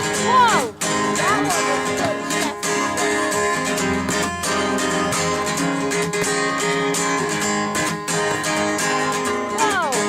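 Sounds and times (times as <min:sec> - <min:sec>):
song with strummed acoustic guitar: 0:00.0 - 0:10.0.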